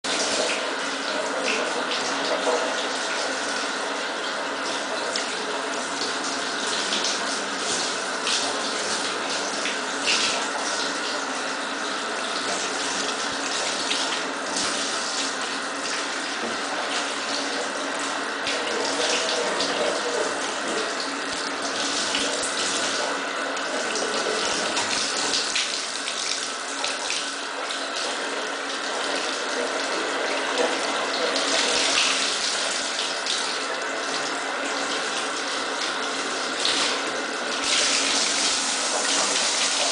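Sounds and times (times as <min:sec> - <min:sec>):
water splashing in bathtub: 0:00.0 - 0:39.9.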